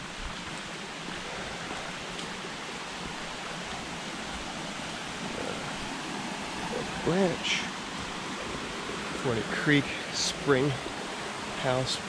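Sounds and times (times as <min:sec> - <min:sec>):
creek running over rocks: 0:00.0 - 0:12.0.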